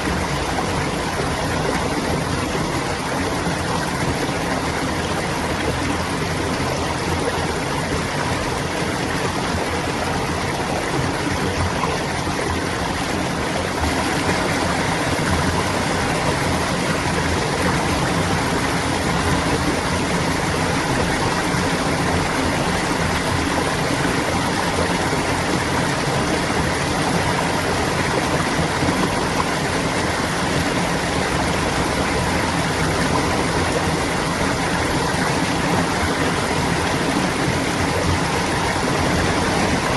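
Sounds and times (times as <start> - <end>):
water babbling in a stream: 0.0 - 39.9.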